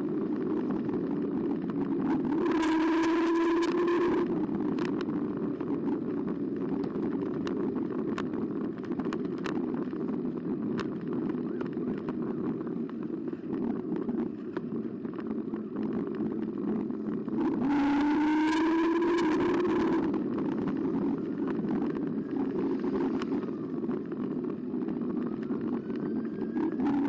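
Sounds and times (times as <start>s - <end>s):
bicycle tyres and wind rush: 0.0s - 27.0s.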